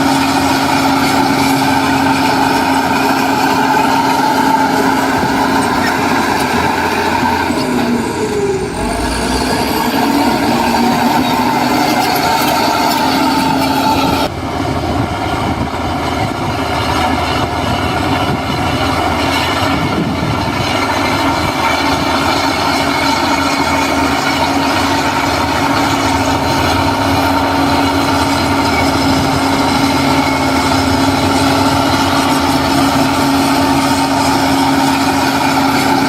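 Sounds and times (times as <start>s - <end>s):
diesel construction machinery running: 0.0s - 36.0s.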